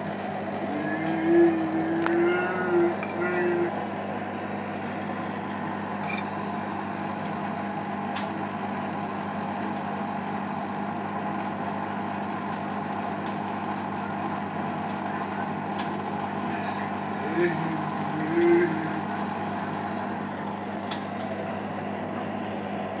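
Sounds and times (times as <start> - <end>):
washing machine spinning: 0.0 - 23.0.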